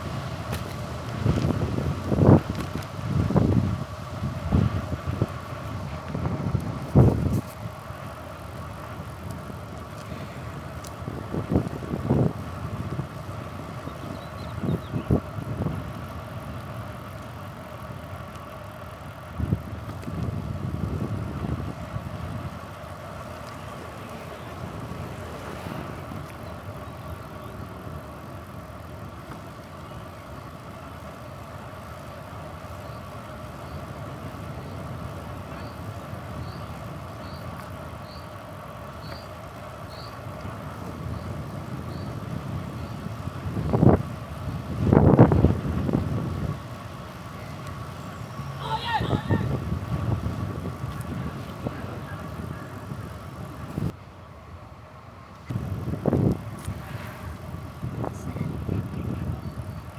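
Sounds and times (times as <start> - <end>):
wind buffeting microphone: 0.0 - 31.2, 32.6 - 54.0, 55.5 - 59.9
bicycle whirring hum: 0.0 - 59.9.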